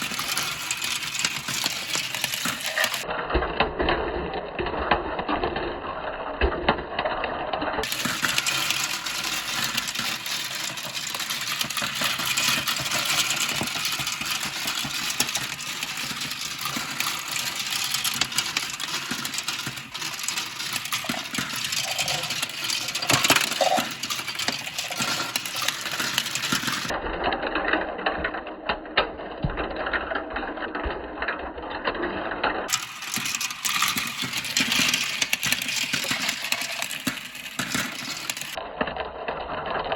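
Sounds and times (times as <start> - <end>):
marbles rolling and clacking: 0.0 - 39.9.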